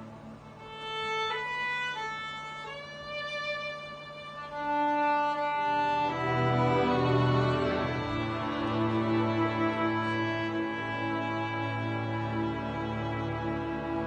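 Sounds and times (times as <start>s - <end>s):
string orchestra low notes: 0.0s - 14.0s
solo violin melody: 0.5s - 14.0s.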